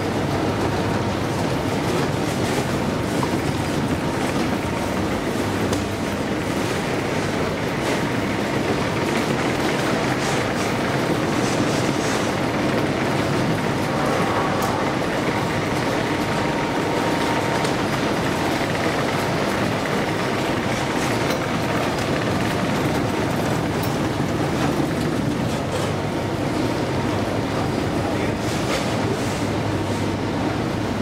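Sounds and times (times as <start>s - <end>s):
escalator mechanical rumble: 0.0s - 27.7s.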